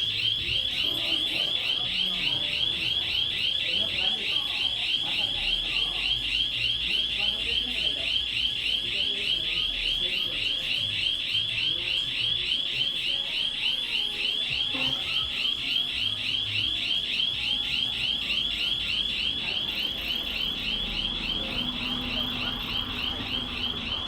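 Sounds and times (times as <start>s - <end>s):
high warbling panic alarm: 0.0s - 24.0s.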